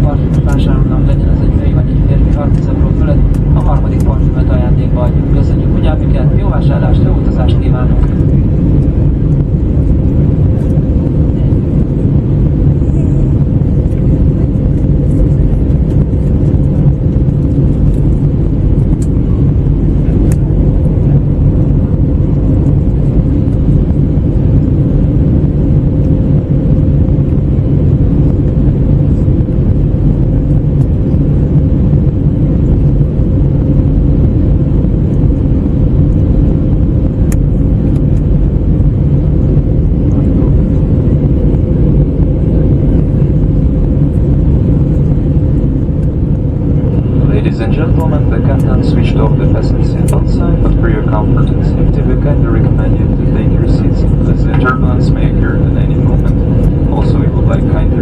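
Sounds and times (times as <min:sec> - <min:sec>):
aircraft cabin engine drone: 0:00.0 - 0:58.0
steady hum tone: 0:00.0 - 0:58.0.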